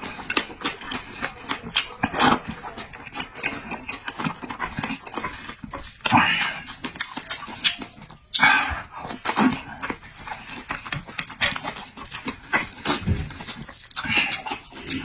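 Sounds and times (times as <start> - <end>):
person chewing noisily: 0.0 - 15.0.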